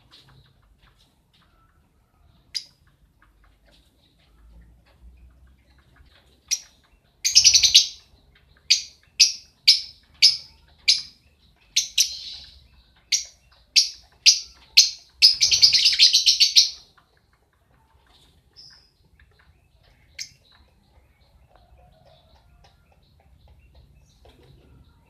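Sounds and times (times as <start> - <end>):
lovebird chattering and chirping: 0.0 - 25.0.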